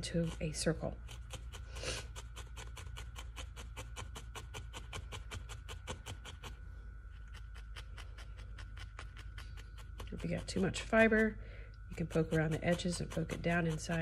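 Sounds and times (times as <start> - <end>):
felting needle jabbing wool: 0.0 - 14.0.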